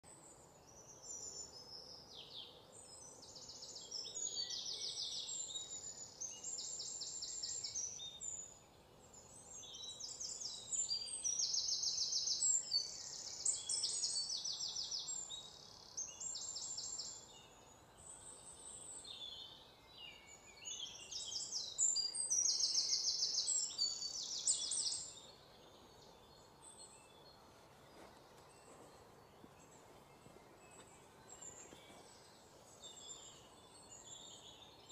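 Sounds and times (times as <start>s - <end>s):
faint outdoor background: 0.0s - 34.9s
songbirds singing trilled phrases: 0.2s - 34.9s.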